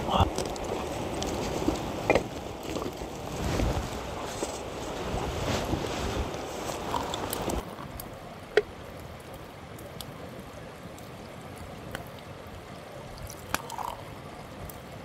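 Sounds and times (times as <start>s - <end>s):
soft outdoor rush: 0.0s - 15.0s.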